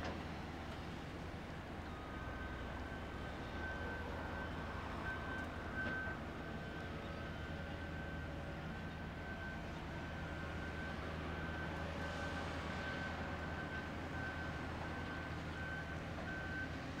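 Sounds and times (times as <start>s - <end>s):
diesel engines running: 0.0s - 17.0s
reversing alarm beeping: 1.8s - 17.0s.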